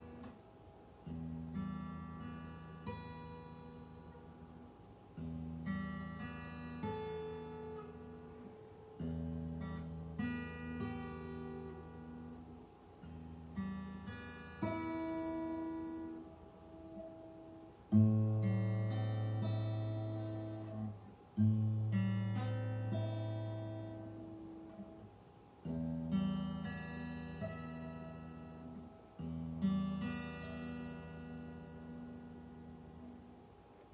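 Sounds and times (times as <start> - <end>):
acoustic guitar chords ringing: 0.0 - 33.9.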